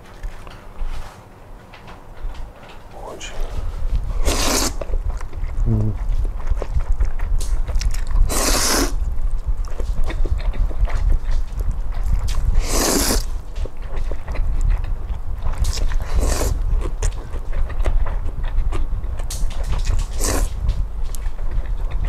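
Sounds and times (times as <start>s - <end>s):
steady low rumble: 2.1s - 22.0s
chewing and biting: 3.4s - 22.0s.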